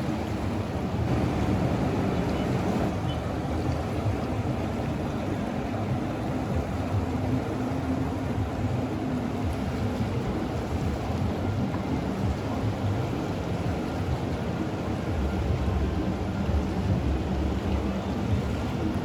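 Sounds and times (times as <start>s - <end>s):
fast-flowing river water rushing: 0.0s - 19.0s.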